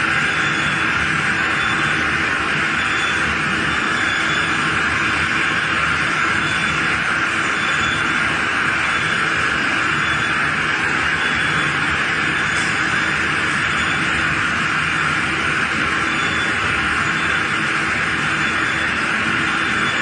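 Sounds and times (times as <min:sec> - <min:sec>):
steady machine noise: 0:00.0 - 0:20.0.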